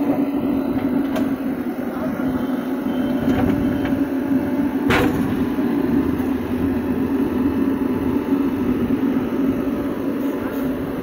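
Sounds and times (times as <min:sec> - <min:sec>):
diesel engines running: 0:00.0 - 0:11.0.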